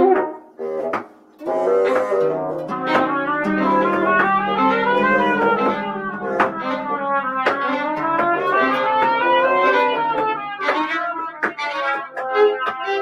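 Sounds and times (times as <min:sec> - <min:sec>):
chamber ensemble playing: 0:01.4 - 0:13.0.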